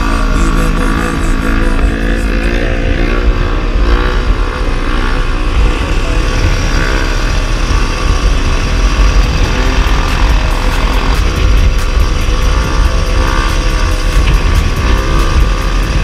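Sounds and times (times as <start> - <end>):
motorcycle engine running: 0.0 - 16.0
wind rumble on microphone: 0.0 - 16.0.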